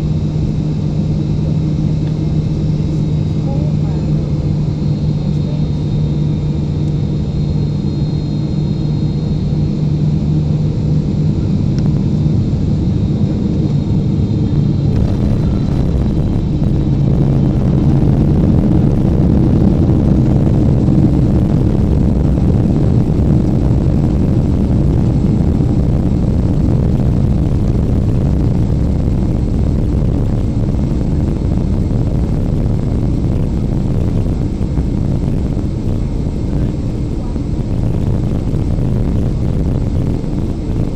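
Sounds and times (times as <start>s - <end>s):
jet engine and airflow in cabin: 0.0s - 40.9s
low hum: 0.0s - 40.9s.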